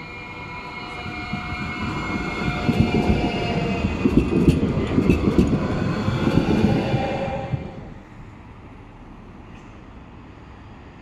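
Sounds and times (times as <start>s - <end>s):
electric whine of tram: 0.0s - 11.0s
tram wheels rumbling on rails: 0.0s - 11.0s.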